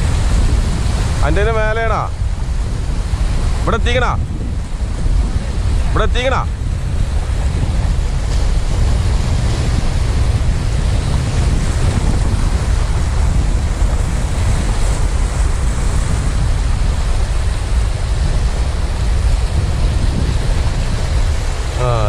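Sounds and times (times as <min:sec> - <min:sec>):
surf breaking over rocks: 0:00.0 - 0:22.0
wind buffeting microphone: 0:00.0 - 0:22.0.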